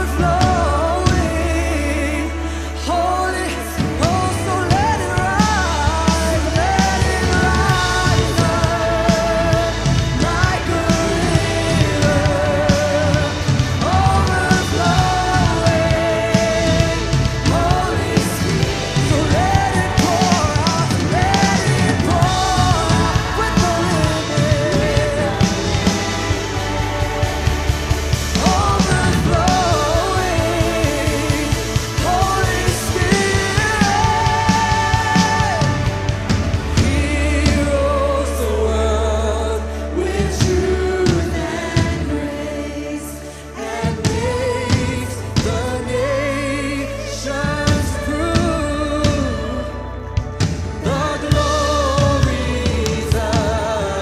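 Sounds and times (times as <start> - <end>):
band playing drums and bass: 0.0 - 54.0
voices singing with vibrato: 0.0 - 54.0.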